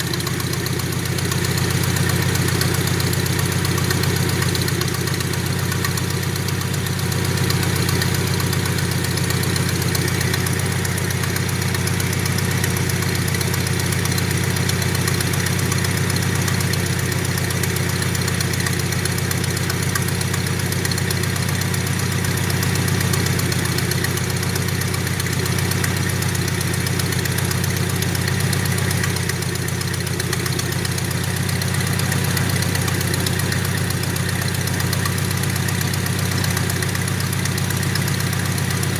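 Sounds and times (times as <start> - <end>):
pickup truck engine idling: 0.0 - 38.9.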